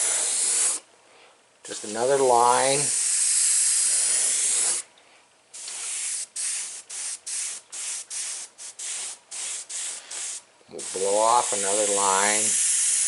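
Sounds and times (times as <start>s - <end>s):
airbrush hissing in short bursts: 0.0s - 0.9s, 1.9s - 4.9s, 5.5s - 13.0s.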